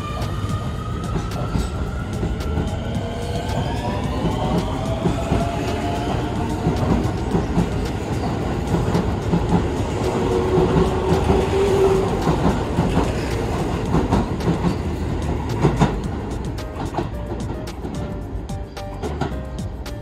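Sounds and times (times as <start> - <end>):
train wheels clacking over joints: 0.0 - 20.0.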